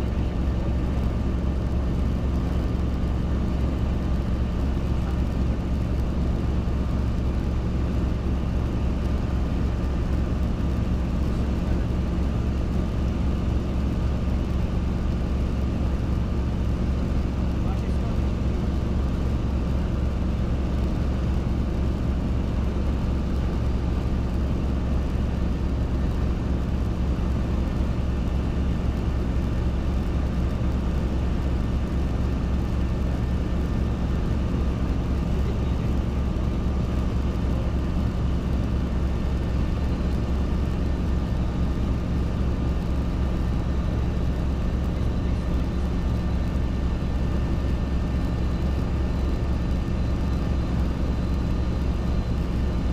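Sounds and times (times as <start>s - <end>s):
helicopter engine and rotors: 0.0s - 52.9s.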